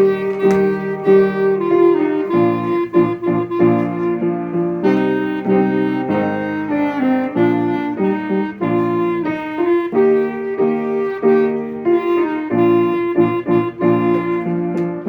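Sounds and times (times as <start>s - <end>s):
wind band short chords: 0.0s - 15.0s.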